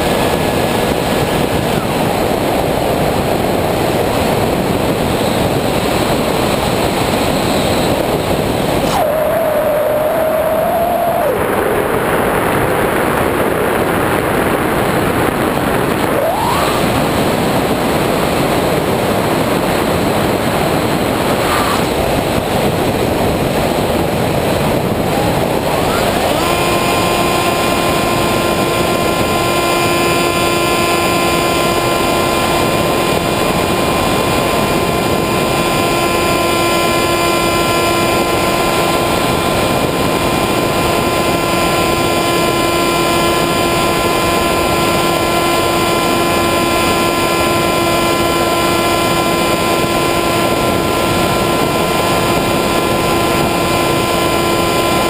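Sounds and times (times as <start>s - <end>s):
airflow rushing over camera: 0.0s - 55.0s
electric motor whine: 0.0s - 55.0s.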